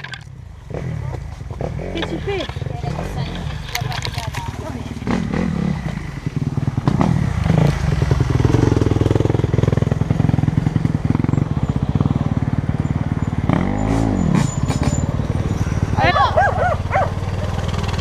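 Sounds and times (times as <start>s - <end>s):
motorcycle engine idling: 0.0s - 13.7s, 15.0s - 18.0s.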